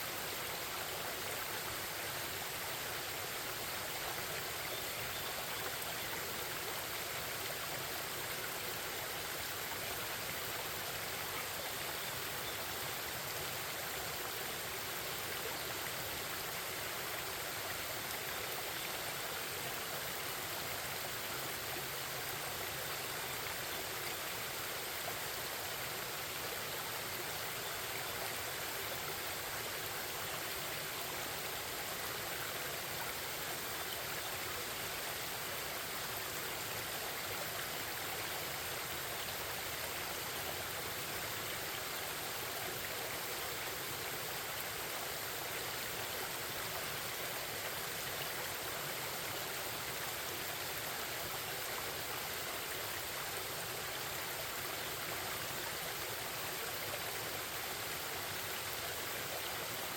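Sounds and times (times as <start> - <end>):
stream babbling over rocks: 0.0 - 59.9.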